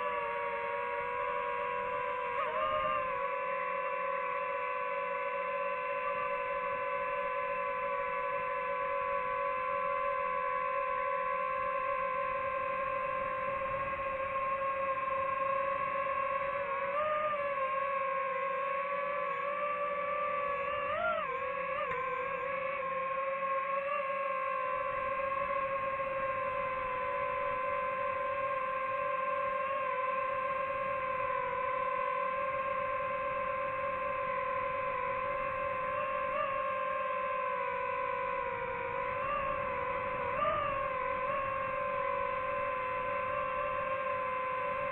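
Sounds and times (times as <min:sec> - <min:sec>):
drone propellers whining: 0:00.0 - 0:44.9.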